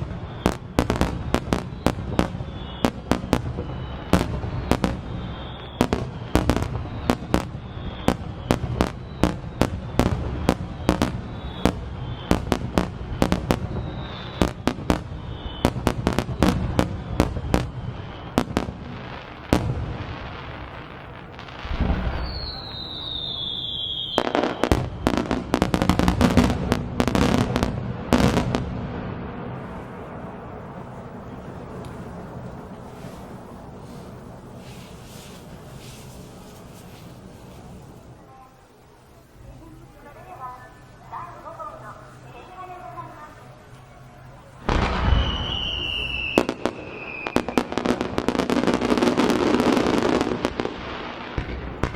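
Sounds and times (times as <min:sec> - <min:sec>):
falling firework whistles: 0:00.0 - 0:38.2, 0:44.5 - 0:51.9
fireworks bursting: 0:00.0 - 0:51.9.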